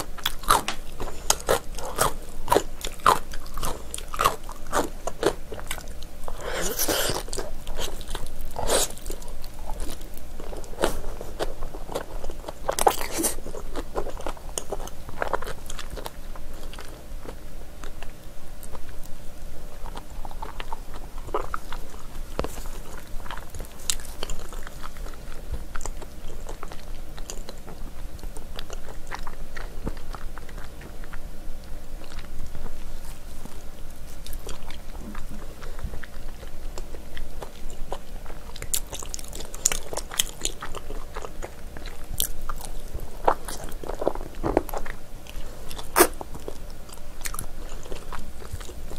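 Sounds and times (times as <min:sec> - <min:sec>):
close-miked chewing: 0:00.0 - 0:48.9.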